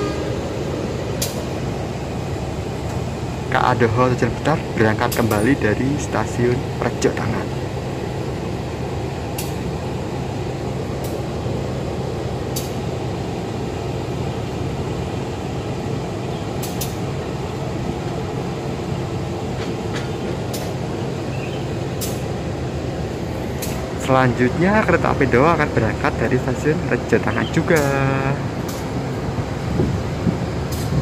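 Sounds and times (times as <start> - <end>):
train low drone: 0.0 - 31.0.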